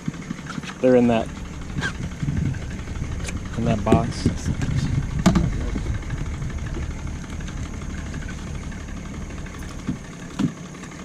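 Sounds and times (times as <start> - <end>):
boat motor idling: 0.0 - 11.0.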